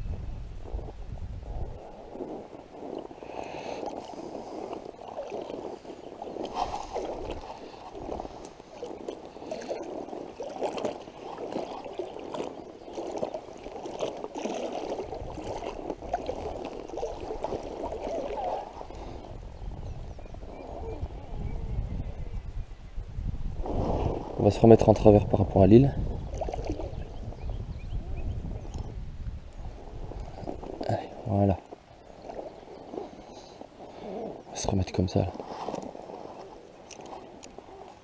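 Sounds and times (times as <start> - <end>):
water sloshing and gurgling: 0.0 - 38.0
wind rumble on microphone: 0.0 - 38.0.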